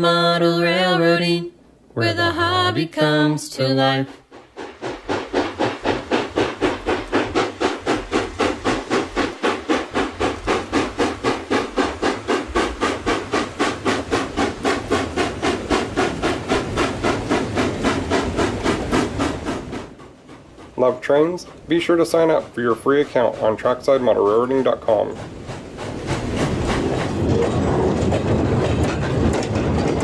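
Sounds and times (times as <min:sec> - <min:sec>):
steam locomotive chuffing: 0:02.0 - 0:30.0.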